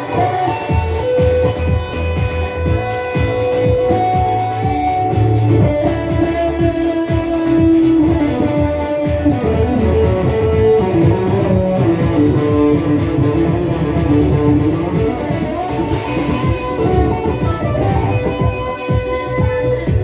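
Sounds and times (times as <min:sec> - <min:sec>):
bass: 0:00.0 - 0:20.0
electric guitar notes: 0:00.0 - 0:20.0
steady drum beat: 0:00.0 - 0:20.0.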